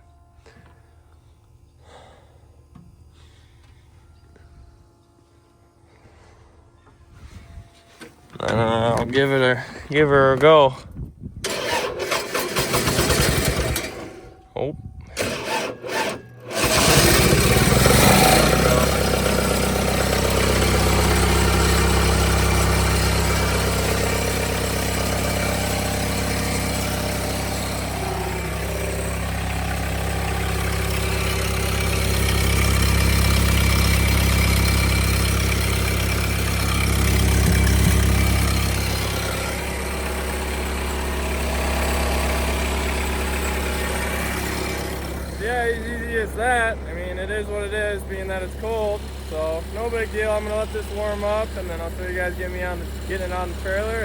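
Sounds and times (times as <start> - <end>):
diesel engine idling: 0.0 - 7.6, 8.4 - 10.8, 11.4 - 54.0.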